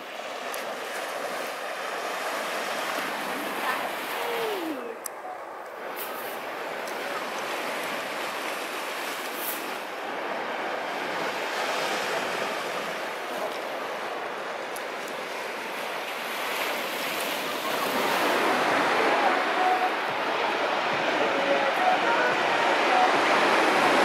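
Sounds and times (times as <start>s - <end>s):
sea surf washing over rocks: 0.0s - 24.0s.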